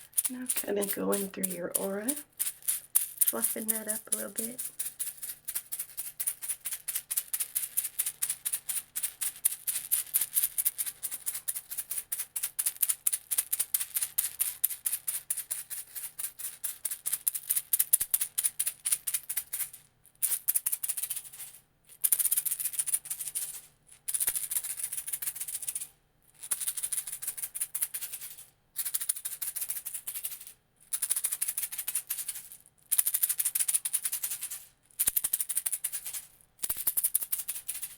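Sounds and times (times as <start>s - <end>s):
hand rattle shaken: 0.0s - 37.9s.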